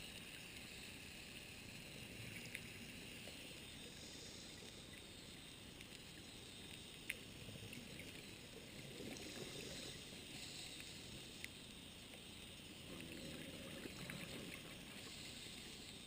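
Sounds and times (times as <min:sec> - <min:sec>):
underwater hiss: 0:00.0 - 0:16.0.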